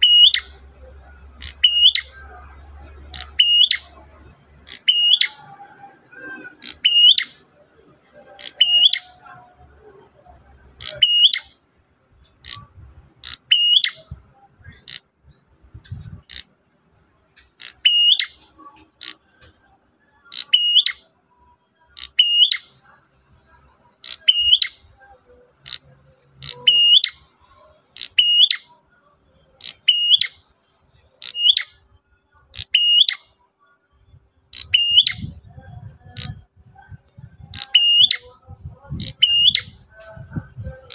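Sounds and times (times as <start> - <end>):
bird chirping calls: 0.0 - 16.5, 17.4 - 21.2, 21.8 - 22.9, 23.9 - 33.4, 34.1 - 40.9.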